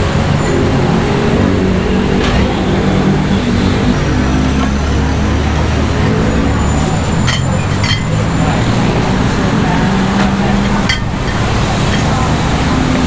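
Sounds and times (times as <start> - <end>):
low traffic rumble: 0.0 - 13.0
vehicle engines running: 0.0 - 13.0.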